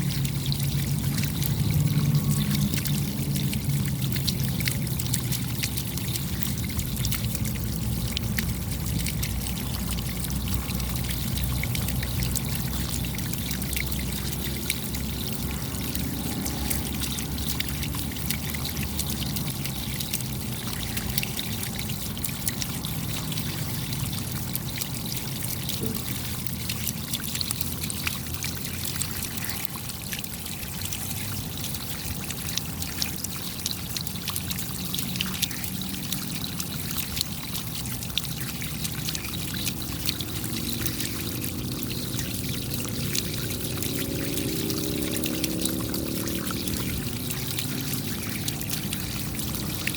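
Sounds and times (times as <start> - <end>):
rain drops ticking: 0.0 - 49.9
trickling pouring water: 0.0 - 49.9.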